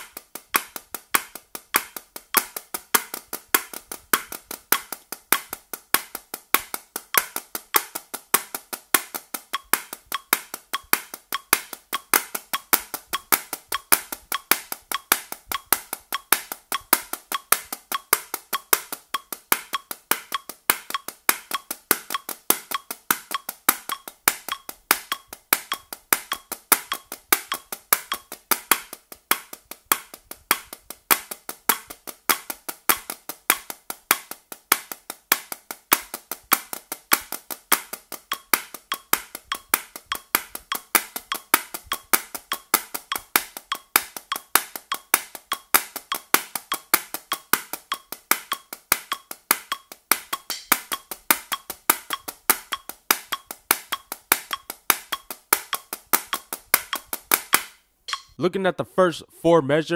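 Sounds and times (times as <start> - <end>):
drumsticks striking a practice pad: 0.0 - 58.4.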